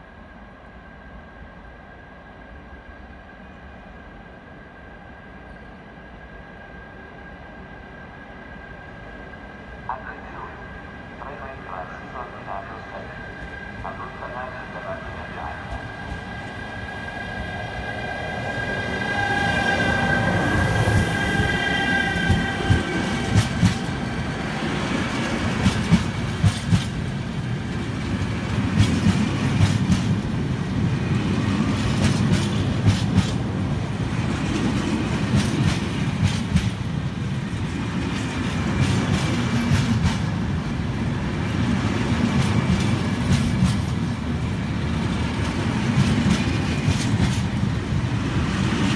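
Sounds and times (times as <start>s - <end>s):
high steady train whine: 0.0s - 48.9s.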